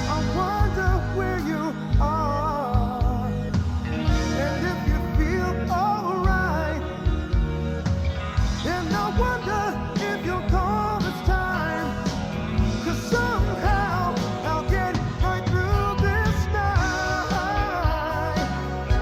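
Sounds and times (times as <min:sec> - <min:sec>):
drums keeping steady beat: 0:00.0 - 0:19.0
rock band playing: 0:00.0 - 0:19.0.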